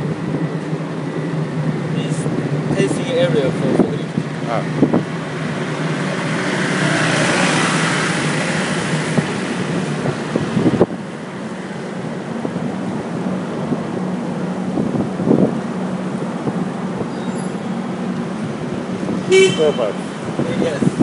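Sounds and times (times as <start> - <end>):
rushing wind or road noise: 0.0 - 21.0.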